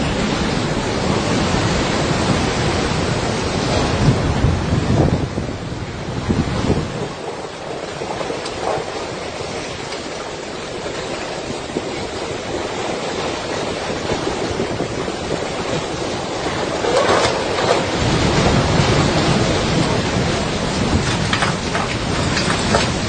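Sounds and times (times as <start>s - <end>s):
rushing water: 0.0s - 23.0s
rushing wind: 0.0s - 23.0s.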